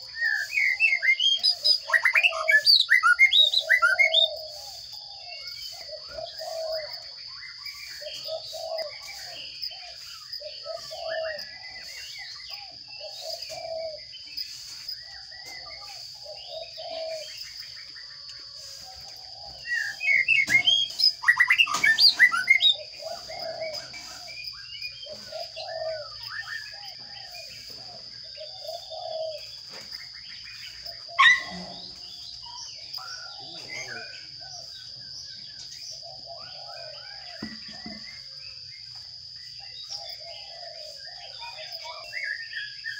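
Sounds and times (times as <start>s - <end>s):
nestlings begging: 0.0s - 35.0s
sparrows chirping: 0.0s - 42.9s.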